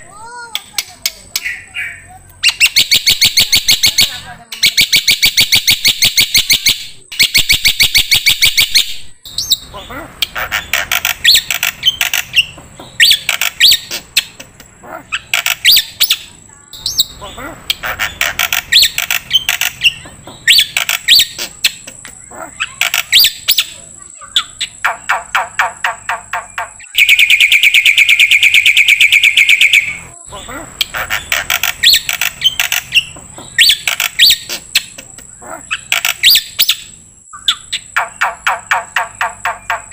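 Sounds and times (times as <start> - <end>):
fast even trill: 0.2 - 39.9
songbird chirps and whistles: 1.0 - 14.4, 15.1 - 30.2, 30.8 - 39.9.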